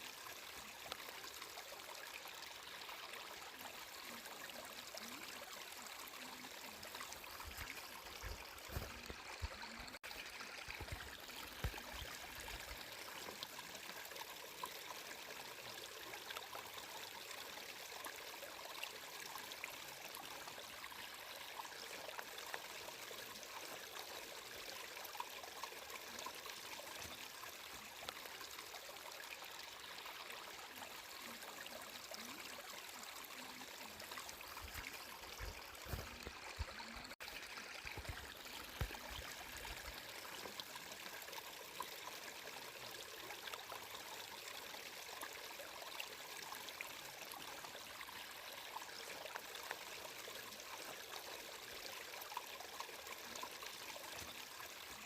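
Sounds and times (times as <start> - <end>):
water trickling like a stream: 0.0 - 55.0.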